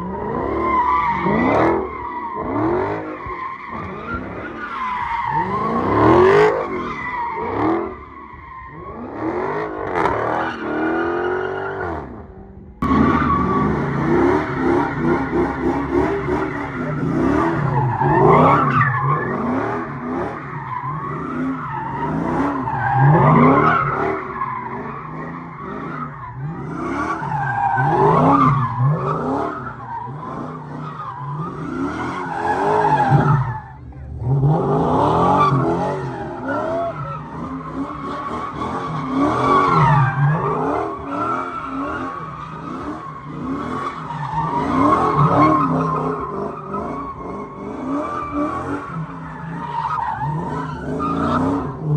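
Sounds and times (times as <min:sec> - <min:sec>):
tires squealing and skidding: 0:00.0 - 0:51.9.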